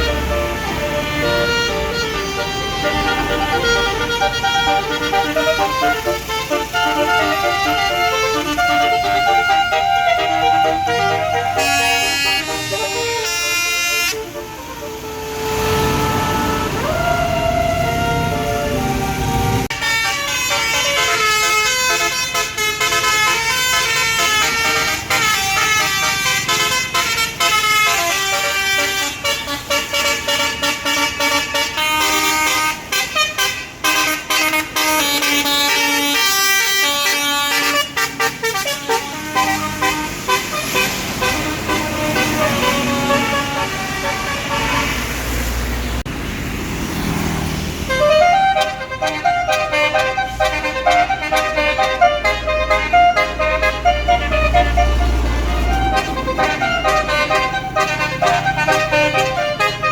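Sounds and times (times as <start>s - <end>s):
bus horn playing a tune: 0.0s - 46.0s, 47.7s - 59.9s.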